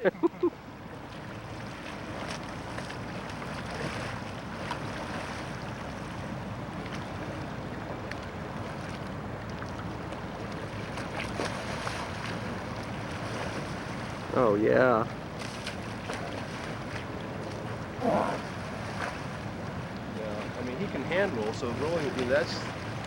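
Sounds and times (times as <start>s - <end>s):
moving water: 0.0s - 23.0s.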